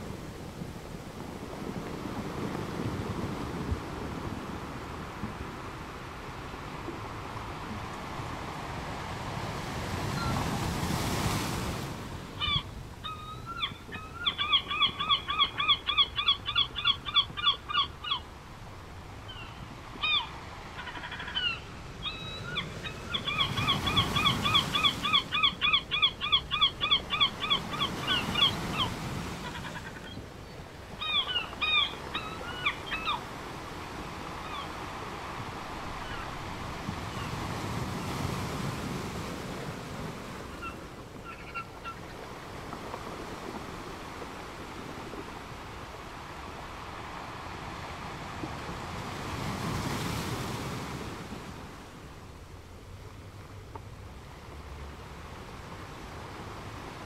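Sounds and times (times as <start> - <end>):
surf washing in and out: 0.0 - 57.0.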